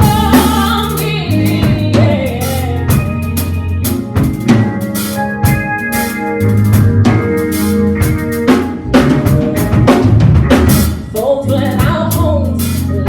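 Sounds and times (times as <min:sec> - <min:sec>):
drum kit and cymbal hits: 0:00.0 - 0:12.9
organ holding chords: 0:00.0 - 0:13.0.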